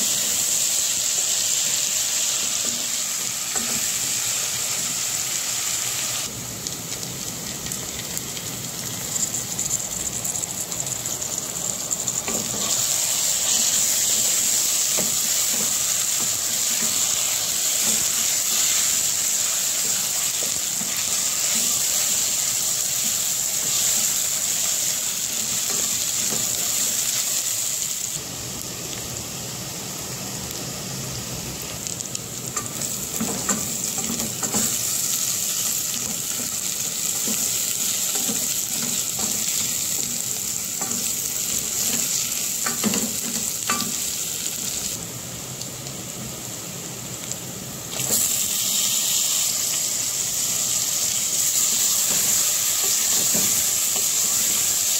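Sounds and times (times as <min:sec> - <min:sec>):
onions sizzling in oil: 0:00.0 - 0:54.9.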